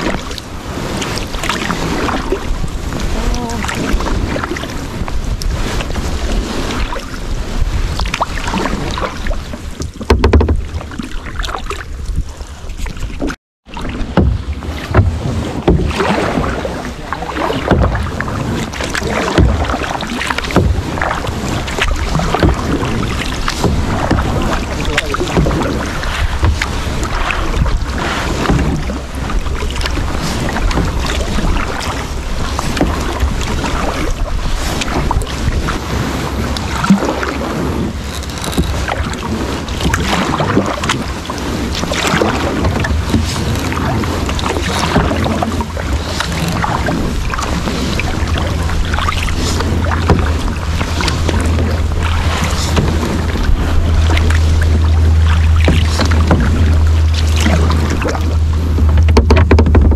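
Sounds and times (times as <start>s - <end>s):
kayak paddles splashing: 0.0s - 59.9s
wind buffeting microphone: 0.0s - 59.9s.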